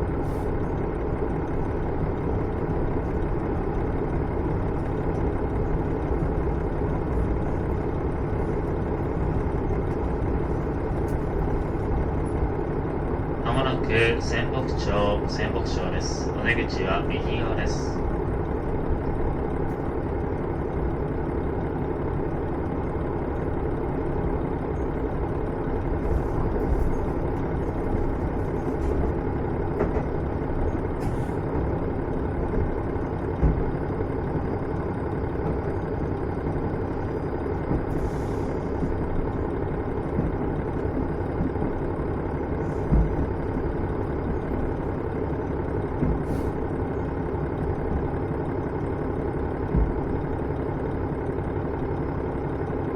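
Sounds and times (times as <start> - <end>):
diesel railcar engine: 0.0 - 52.9.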